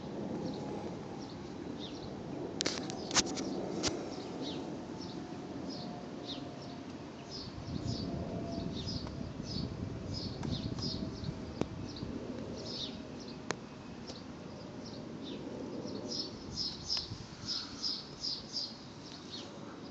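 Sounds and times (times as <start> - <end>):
steady low rumble: 0.0 - 19.0
small birds chirping: 0.4 - 19.9.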